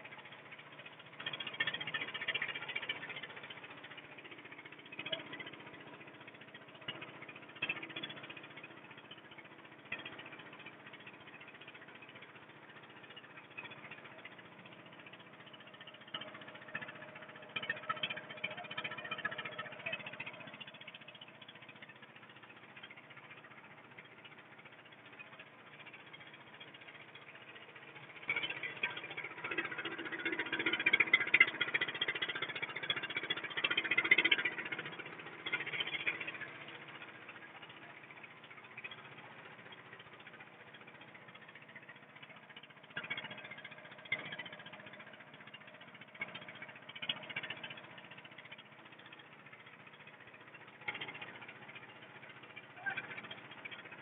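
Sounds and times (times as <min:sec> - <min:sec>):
boat engine running with rattle: 0:00.0 - 0:54.0.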